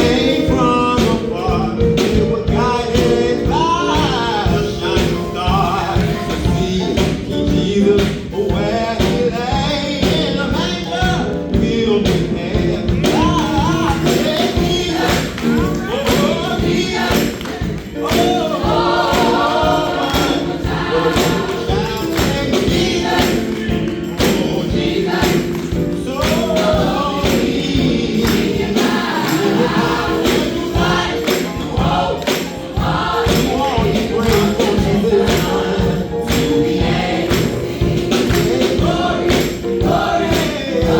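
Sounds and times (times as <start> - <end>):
choir singing: 0.0 - 10.6, 11.9 - 40.9
percussion beat: 0.0 - 40.9.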